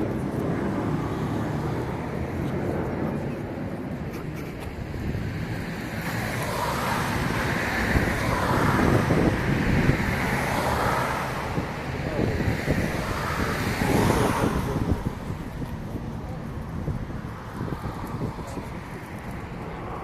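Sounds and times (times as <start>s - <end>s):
aircraft engine rushing past: 0.0s - 20.0s.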